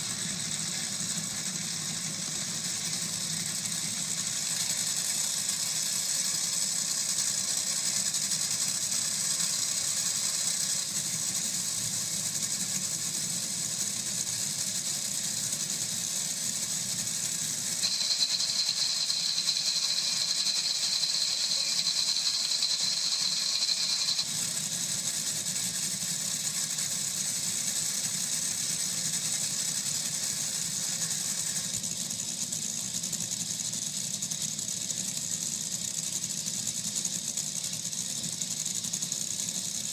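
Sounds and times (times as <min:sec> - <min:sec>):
dragster engines idling: 0:00.0 - 0:39.9
high steady whine: 0:00.0 - 0:39.9.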